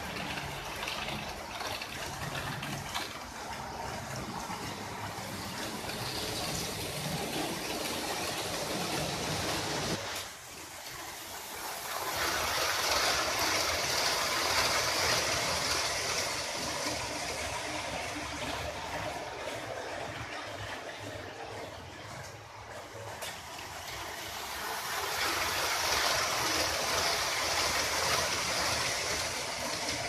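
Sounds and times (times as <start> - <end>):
model train motor: 0.0 - 30.0
model train wheels rattling on rail: 0.0 - 30.0.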